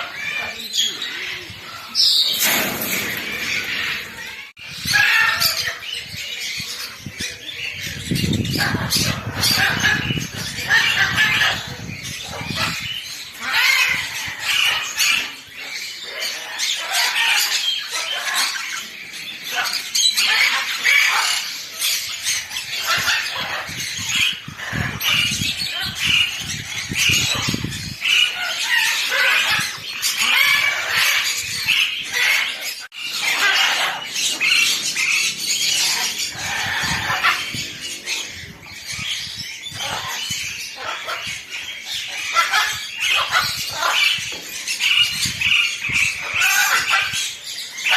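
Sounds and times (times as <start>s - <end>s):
birds squawking and chirping: 0.0s - 47.9s.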